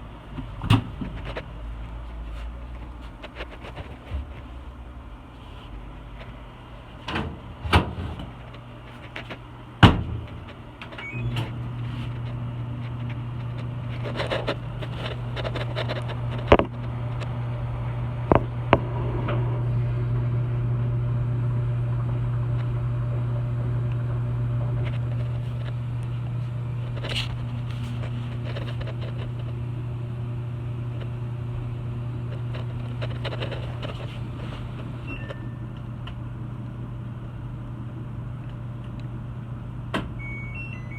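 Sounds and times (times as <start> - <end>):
low electric motor hum: 0.0 - 40.9.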